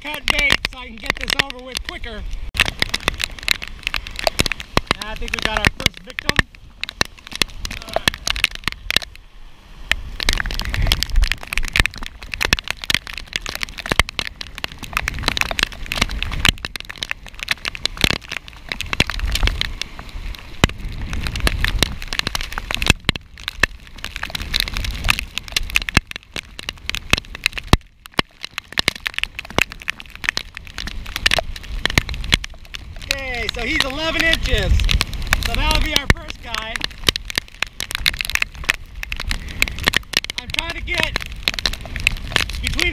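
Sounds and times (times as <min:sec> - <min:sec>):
rain ticking on camera housing: 0:00.0 - 0:42.9
wind buffeting microphone: 0:00.0 - 0:42.9.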